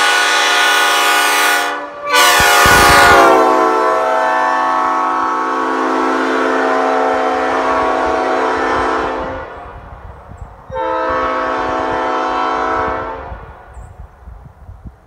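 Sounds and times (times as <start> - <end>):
train horn chord: 0.0 - 9.7, 10.7 - 13.7.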